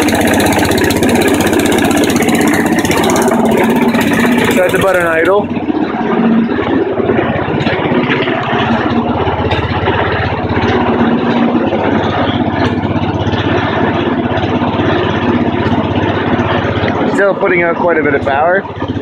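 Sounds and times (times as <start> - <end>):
lawn mower engine idling: 0.0 - 19.0.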